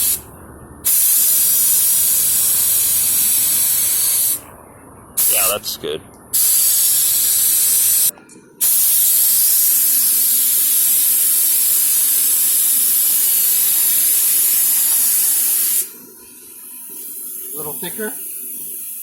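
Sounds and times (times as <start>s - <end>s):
spray gun hissing: 0.8s - 4.4s, 5.2s - 5.6s, 6.4s - 16.0s, 17.0s - 19.0s.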